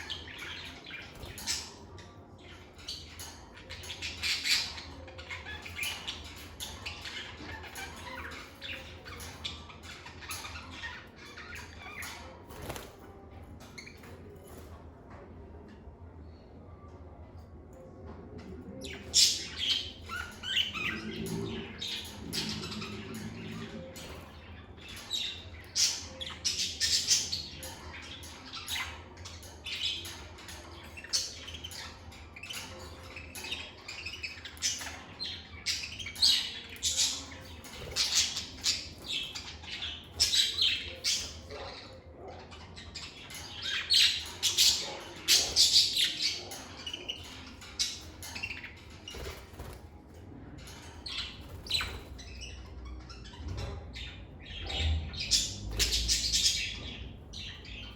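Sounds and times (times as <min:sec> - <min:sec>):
lovebirds chirping and squawking: 0:00.0 - 0:57.9.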